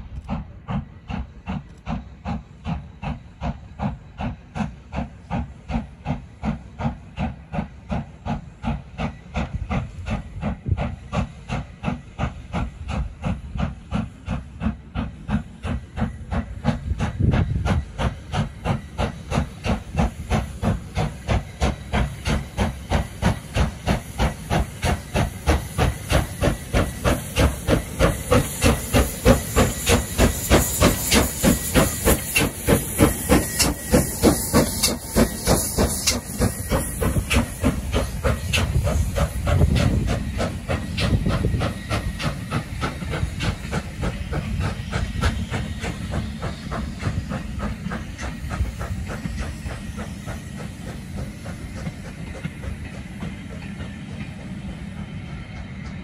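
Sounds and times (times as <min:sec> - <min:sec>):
steam locomotive exhaust chuffing: 0:00.0 - 0:56.0
train coaches rumbling by: 0:00.0 - 0:56.0.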